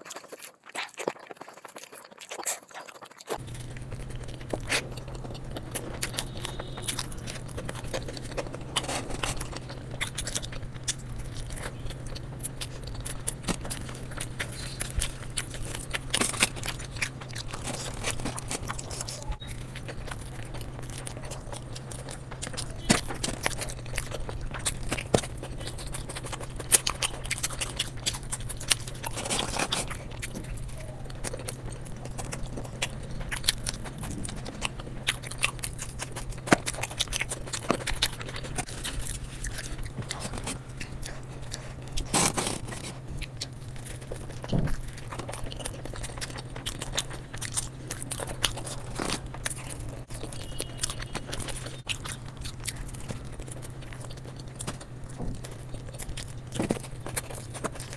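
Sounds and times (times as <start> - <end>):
food crunches: 0.0 - 57.9
person chewing food: 0.0 - 57.9
steady low hum: 3.4 - 57.9.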